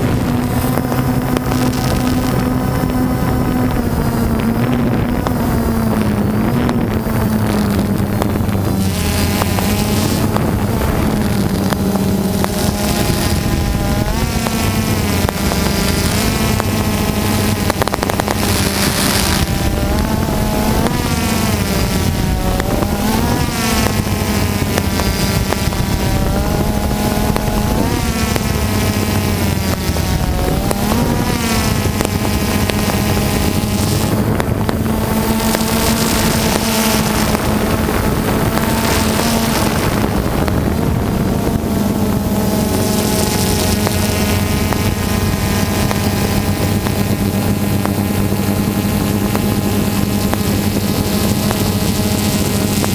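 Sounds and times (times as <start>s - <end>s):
drone propellers whirring: 0.0s - 52.9s.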